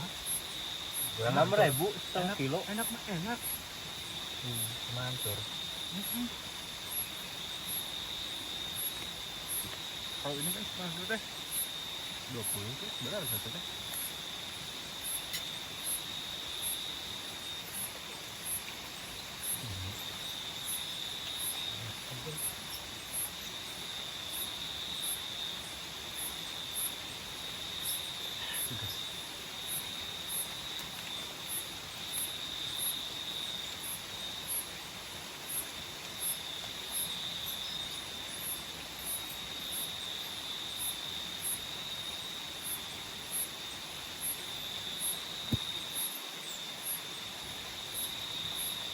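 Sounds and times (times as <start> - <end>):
insect chirping: 0.0 - 48.9
insects trilling: 0.0 - 48.9.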